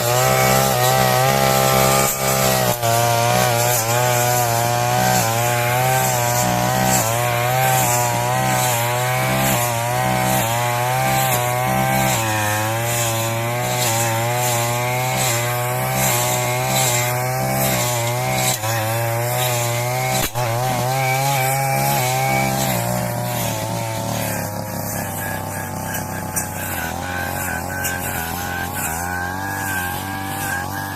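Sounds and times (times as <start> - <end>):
brush cutter cutting grass: 0.0 - 30.9.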